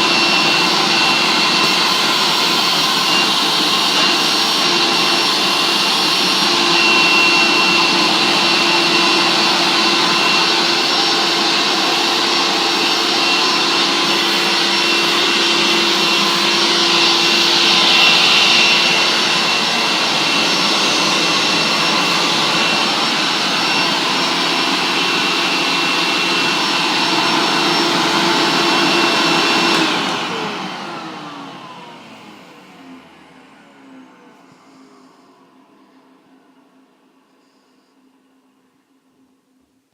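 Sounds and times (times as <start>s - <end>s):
vacuum motor winding down: 0.0s - 36.9s
vacuum cleaner whining: 0.0s - 39.6s.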